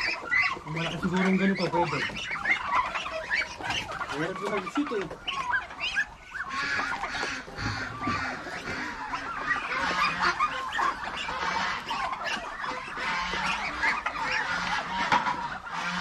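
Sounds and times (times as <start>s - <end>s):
ducks turkeys and chickens calling: 0.0s - 16.0s.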